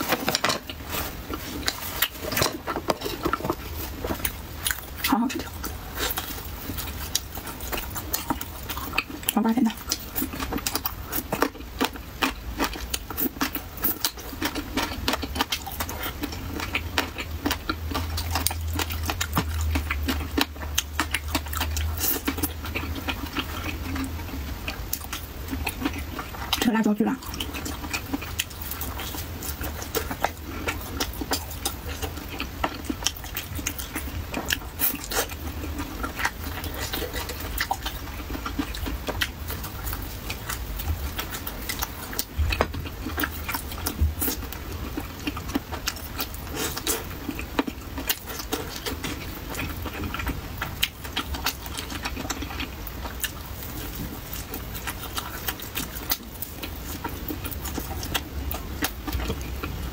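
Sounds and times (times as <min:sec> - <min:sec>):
person chewing crunchy food: 0:00.0 - 0:59.9
steady low hum: 0:00.0 - 0:59.9.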